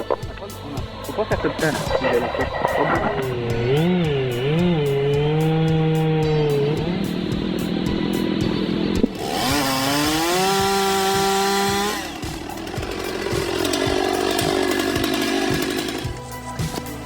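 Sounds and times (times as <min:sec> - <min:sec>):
chainsaw engine revving: 0:01.6 - 0:16.4.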